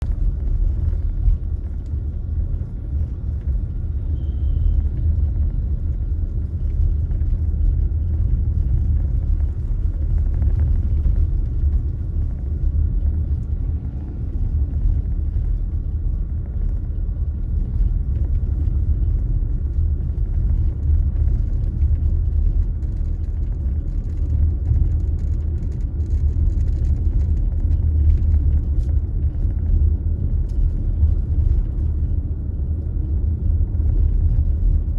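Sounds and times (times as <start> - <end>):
car driving low rumble: 0.0 - 34.9.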